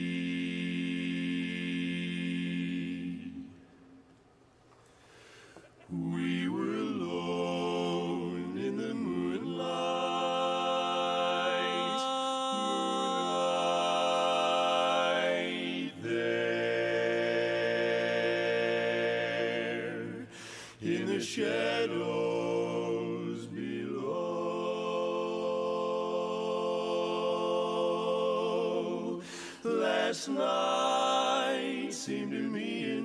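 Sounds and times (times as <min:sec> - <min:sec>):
male quartet singing a cappella: 0:00.0 - 0:03.6, 0:05.9 - 0:33.0.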